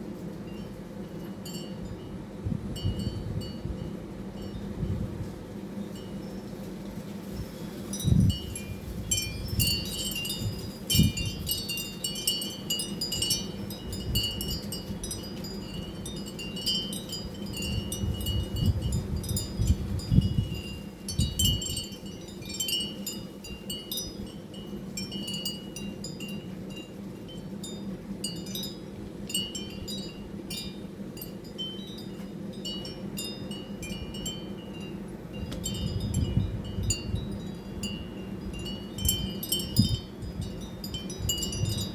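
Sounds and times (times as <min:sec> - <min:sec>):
steady low hum: 0:00.0 - 0:41.9
light metallic chimes tinkling: 0:07.3 - 0:41.9.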